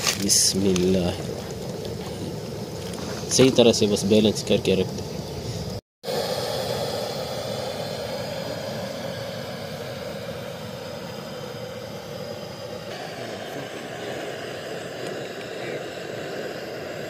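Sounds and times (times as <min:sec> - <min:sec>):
gas burner flame roaring: 0:00.0 - 0:17.0.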